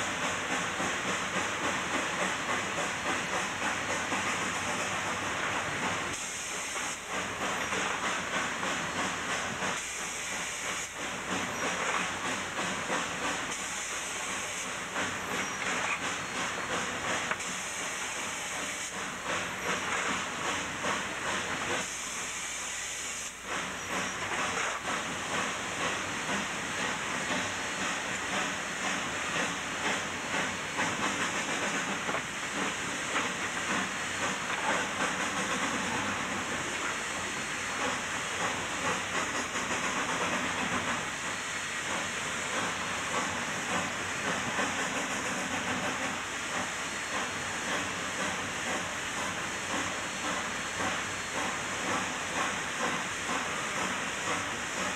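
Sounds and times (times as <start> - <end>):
steam hiss: 0.0 - 54.9
steam locomotive exhaust pulsing: 0.0 - 54.9.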